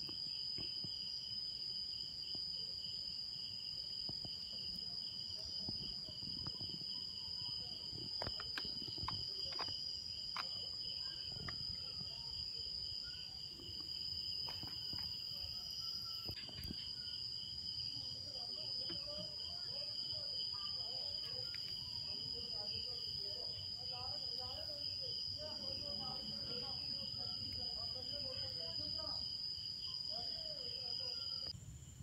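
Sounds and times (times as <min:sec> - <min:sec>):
night insects trilling: 0:00.0 - 0:32.0.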